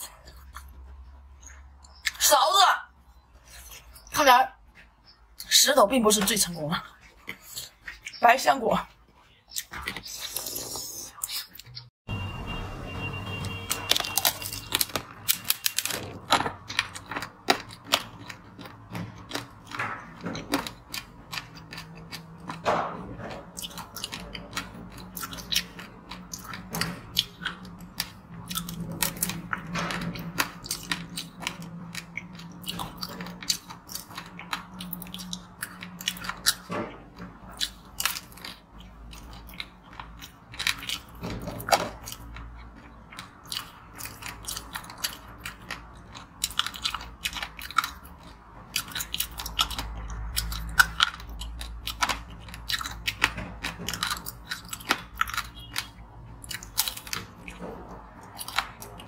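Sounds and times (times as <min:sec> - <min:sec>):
crunching and chewing frozen treat: 0:00.0 - 0:02.3, 0:06.4 - 0:11.9, 0:13.3 - 0:59.0.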